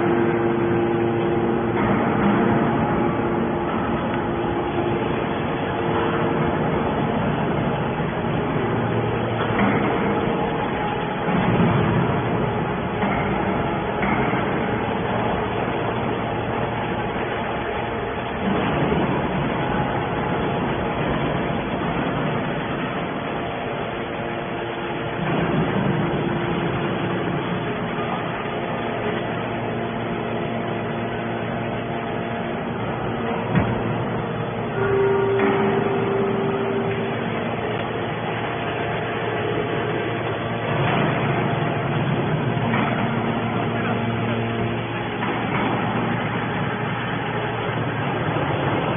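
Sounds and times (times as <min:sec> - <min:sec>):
hydraulic baler mechanical drone: 0:00.0 - 0:48.9.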